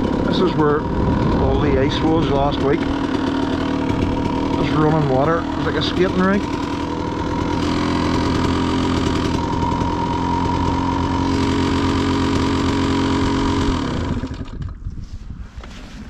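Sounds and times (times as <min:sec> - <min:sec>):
dirt bike engine idling: 0:00.0 - 0:14.9.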